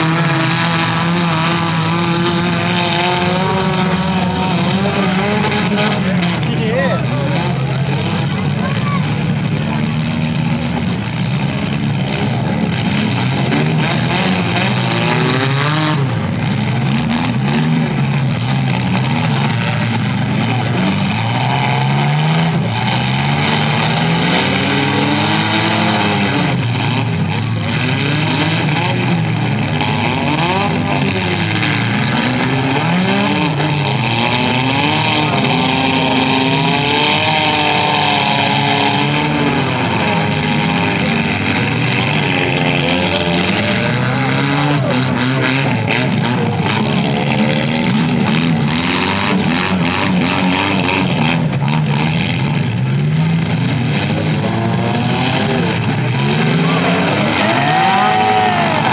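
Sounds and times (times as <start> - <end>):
car engines revving: 0.0 - 58.9.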